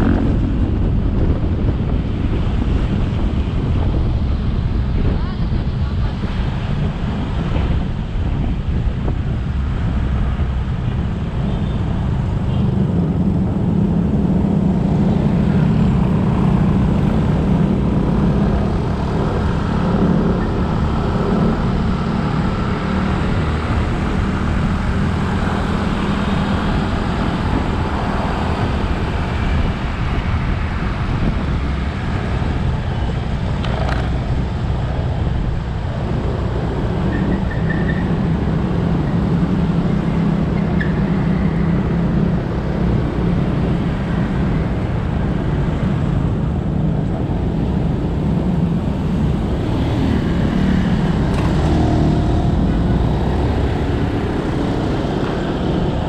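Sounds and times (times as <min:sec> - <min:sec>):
road and traffic noise: 0:00.0 - 0:56.0.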